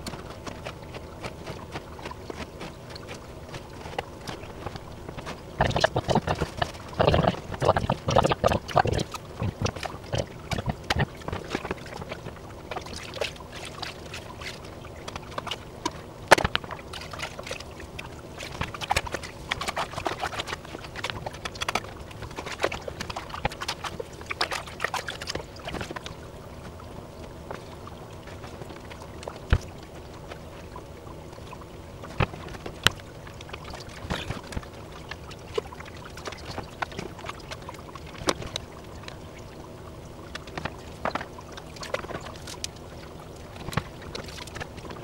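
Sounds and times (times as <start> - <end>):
aquarium water sloshing and splashing: 0.0 - 45.0.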